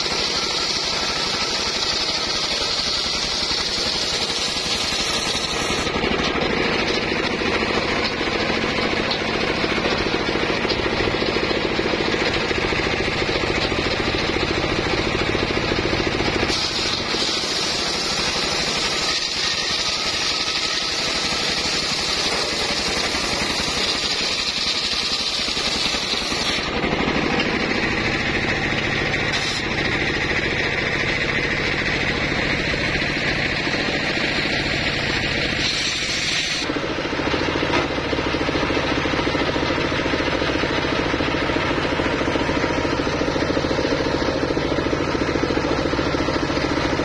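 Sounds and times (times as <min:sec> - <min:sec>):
circular sawmill running: 0:00.0 - 0:47.0
saw blade cutting timber: 0:00.0 - 0:47.0.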